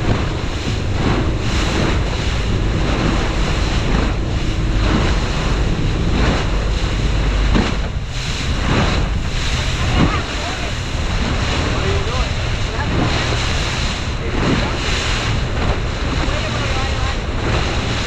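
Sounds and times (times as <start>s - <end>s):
boat engine drone: 0.0s - 18.0s
water slapping against hull: 0.0s - 18.0s
wind buffeting microphone: 0.0s - 18.0s.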